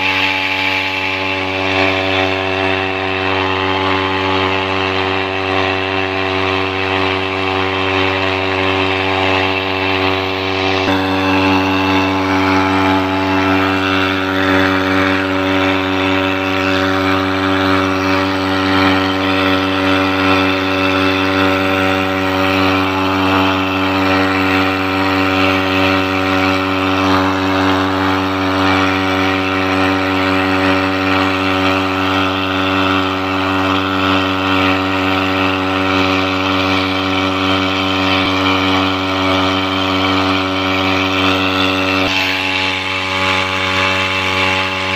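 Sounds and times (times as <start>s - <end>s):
outboard motor running: 0.0s - 44.9s.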